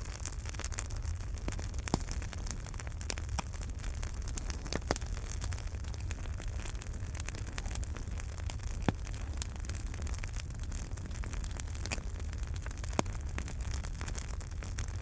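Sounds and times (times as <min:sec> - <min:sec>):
fireplace fire crackling: 0:00.0 - 0:15.0
low rumble of fire: 0:00.0 - 0:15.0.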